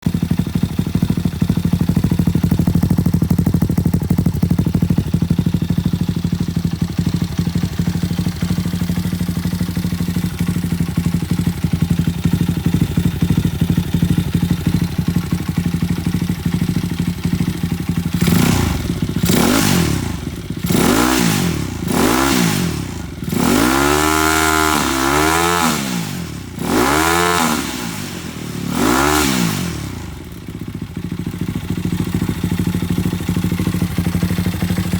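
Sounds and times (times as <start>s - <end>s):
small engine idling and revving: 0.0s - 34.9s.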